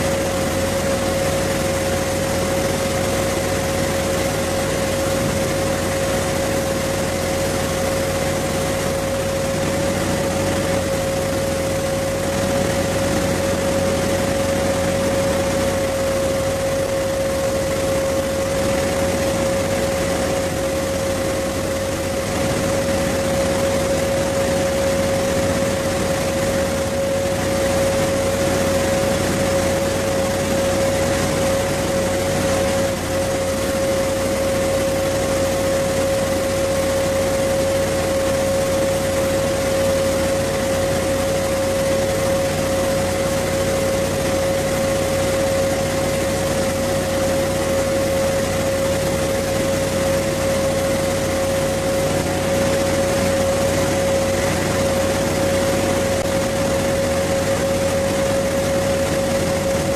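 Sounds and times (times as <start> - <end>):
constant high whine: 0.0 - 59.9
large machine droning: 0.0 - 59.9.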